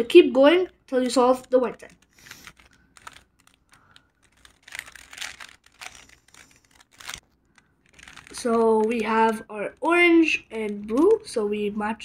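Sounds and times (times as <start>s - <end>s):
puzzle cube clicking and rasping: 0.0s - 11.5s.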